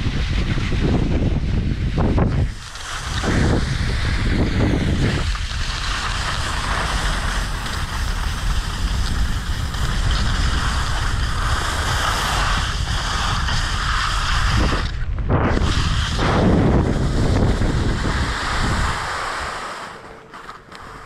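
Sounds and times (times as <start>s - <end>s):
wind buffeting microphone: 0.0s - 21.0s
rushing hiss of skiing: 0.2s - 21.0s.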